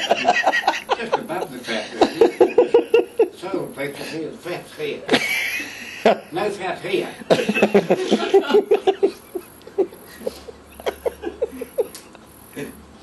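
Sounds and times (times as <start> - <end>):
man laughing: 0.0 - 3.6, 5.1 - 6.4, 7.0 - 12.8.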